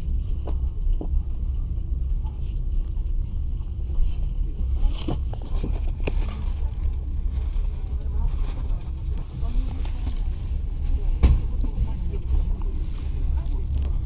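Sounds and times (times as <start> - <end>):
train rumble inside carriage: 0.0 - 14.0.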